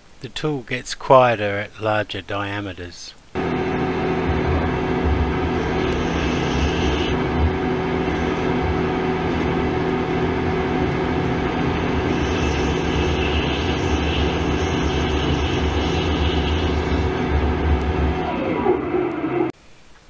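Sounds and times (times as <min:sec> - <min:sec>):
machine hum: 0:03.3 - 0:19.6
lathe cutting metal: 0:03.4 - 0:19.5.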